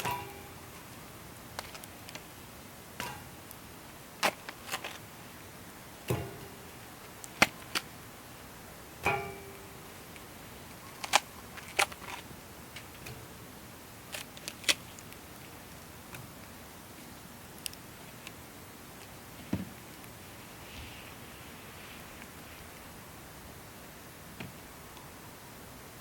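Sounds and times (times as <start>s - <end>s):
wood fire crackling: 0.0s - 25.1s.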